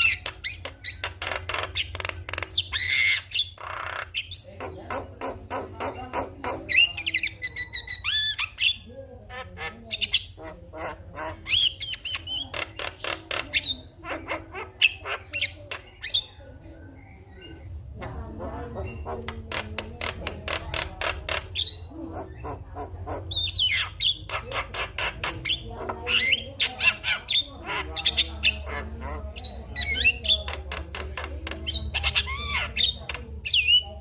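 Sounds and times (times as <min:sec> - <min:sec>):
mynas chattering: 0:00.0 - 0:34.0.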